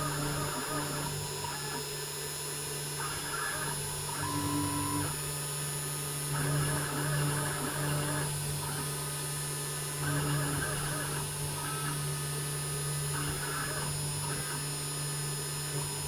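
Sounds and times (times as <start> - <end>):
machine low hum: 0.0 - 16.0
motor whines: 0.0 - 16.0.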